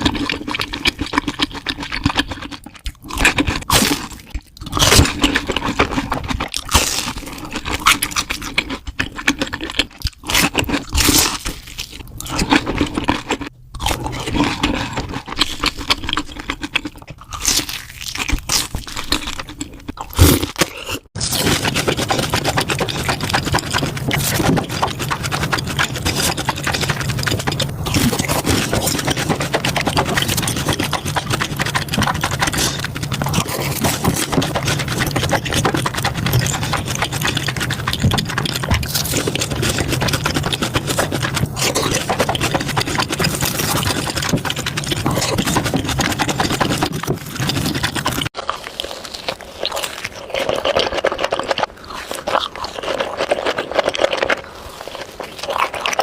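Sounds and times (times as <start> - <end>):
crunching and chewing: 0.0 - 56.0.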